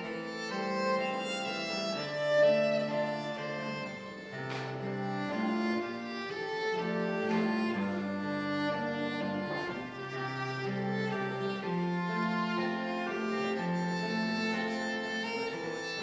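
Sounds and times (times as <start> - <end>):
low sustained string notes: 0.0 - 16.0
violin melody: 0.0 - 16.0.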